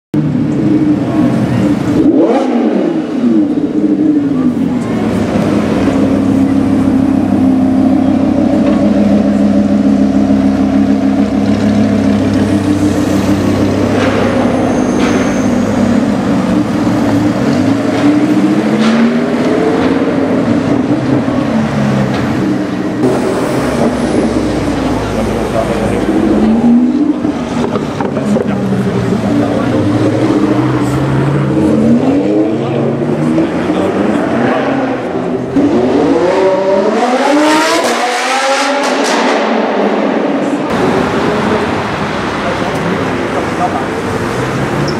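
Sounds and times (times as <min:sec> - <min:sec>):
sports car engine: 0:00.2 - 0:44.9.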